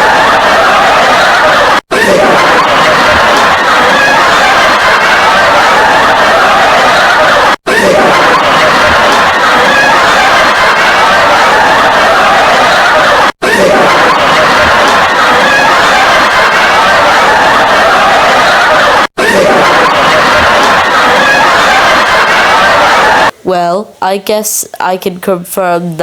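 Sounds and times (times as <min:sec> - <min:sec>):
group of people laughing: 0:00.0 - 0:23.4.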